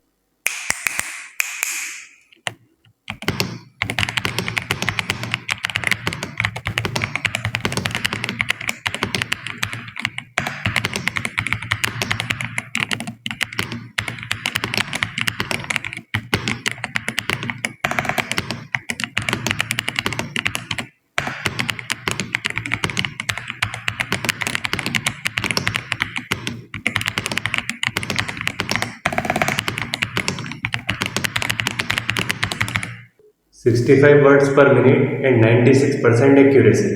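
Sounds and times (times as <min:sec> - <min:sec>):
fast typing on keyboard: 0:02.4 - 0:33.1.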